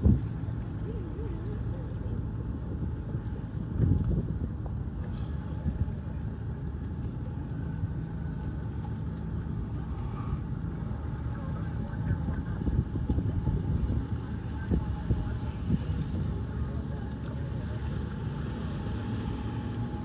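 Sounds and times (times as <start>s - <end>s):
faint hum: 0.0s - 20.0s
low engine rumble: 0.0s - 20.0s.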